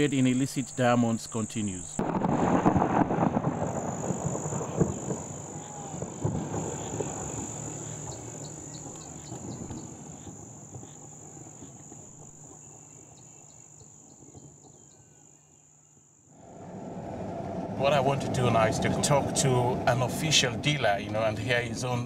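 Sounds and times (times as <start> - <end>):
night insects chirring: 0.0 - 22.0.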